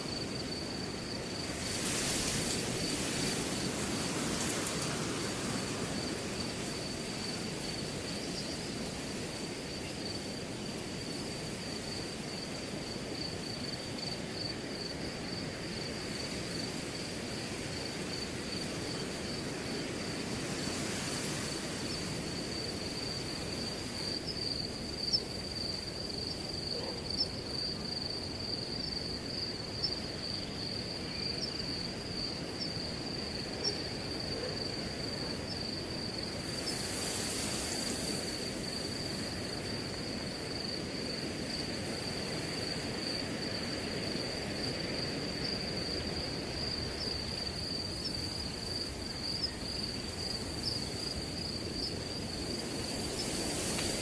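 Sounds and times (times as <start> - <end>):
crickets trilling: 0.0 - 54.0
wind in grass: 0.0 - 54.0.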